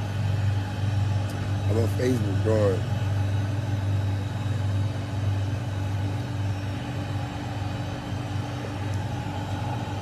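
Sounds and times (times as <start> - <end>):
faint steady tones: 0.0 - 10.0
vehicle engine drone: 0.0 - 10.0.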